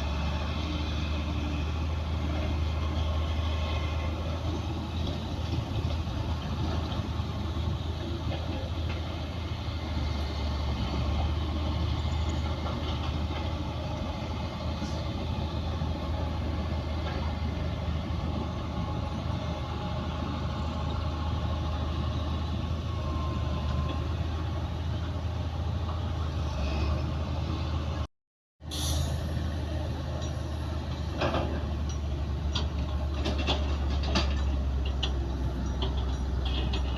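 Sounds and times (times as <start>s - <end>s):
heavy machinery diesel engines: 0.0s - 36.9s.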